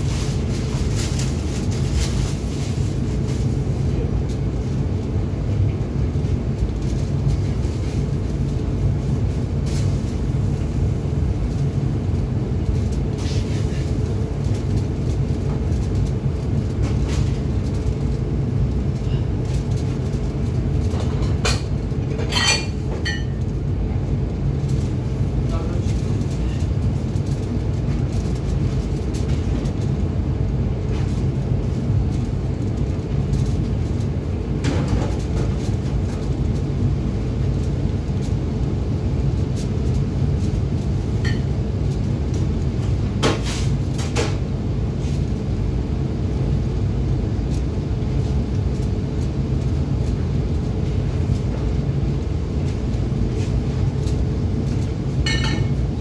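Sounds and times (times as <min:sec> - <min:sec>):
extractor fan rumbling: 0:00.0 - 0:56.0.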